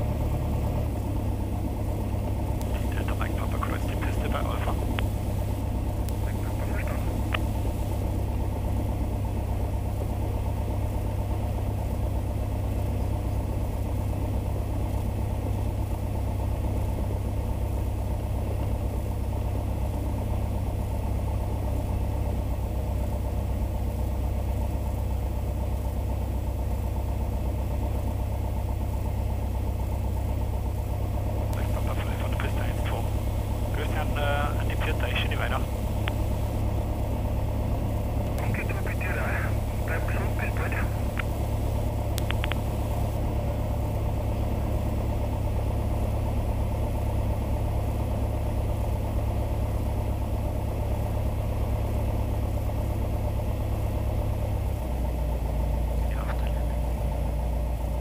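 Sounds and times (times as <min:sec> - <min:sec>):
aircraft piston engine drone: 0:00.0 - 0:58.0.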